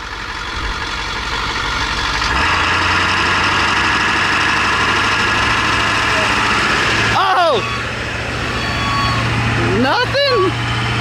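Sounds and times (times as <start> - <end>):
truck engine revving at high revs: 0.0 - 11.0.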